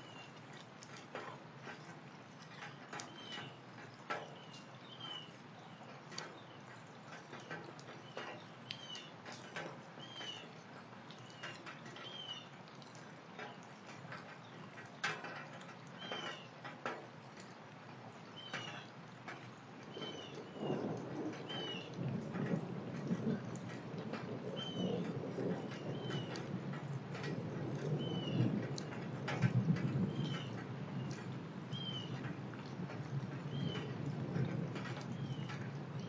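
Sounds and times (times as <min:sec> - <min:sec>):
rain dripping and pattering: 0:00.0 - 0:36.0.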